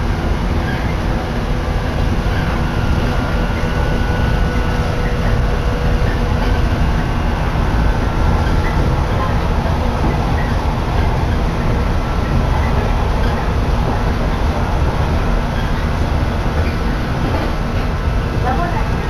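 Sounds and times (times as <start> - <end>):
electric train running rumble: 0.0 - 19.0.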